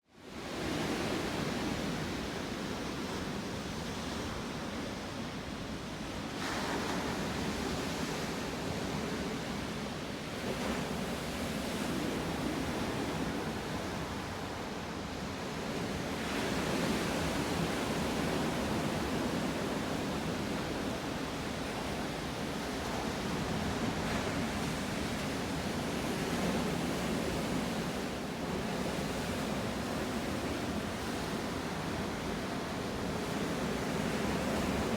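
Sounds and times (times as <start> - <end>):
sea surf washing on shore: 0.4 - 34.9.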